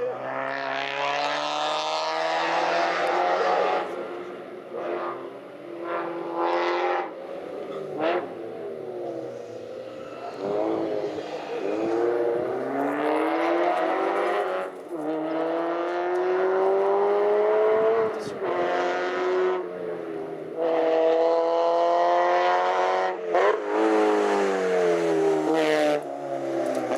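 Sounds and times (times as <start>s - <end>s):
car engine accelerating hard: 0.0s - 26.9s.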